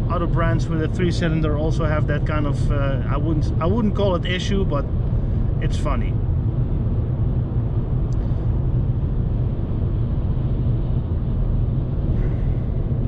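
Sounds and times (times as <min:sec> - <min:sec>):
car engine drone: 0:00.0 - 0:13.0
road and tyre noise: 0:00.0 - 0:13.0.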